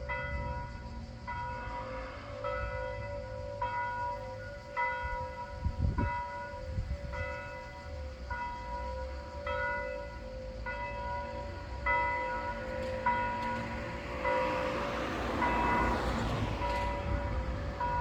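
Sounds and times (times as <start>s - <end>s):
church bell ringing: 0.0s - 18.0s.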